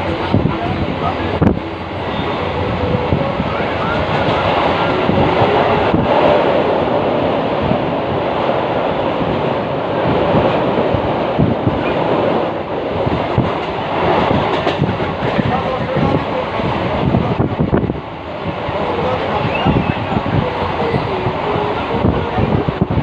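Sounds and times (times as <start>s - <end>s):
train wheel and track noise: 0.0s - 23.0s.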